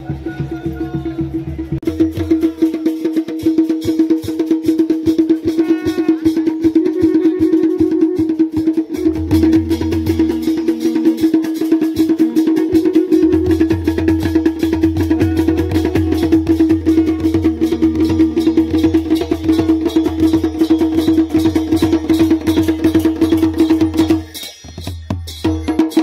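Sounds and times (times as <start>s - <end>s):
fast percussion beat: 0.0s - 26.0s.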